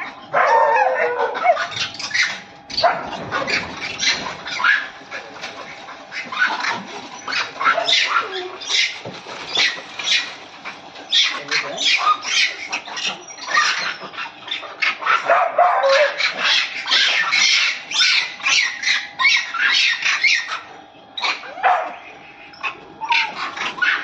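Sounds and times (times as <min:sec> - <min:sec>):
dogs barking and yelping: 0:00.0 - 0:24.0.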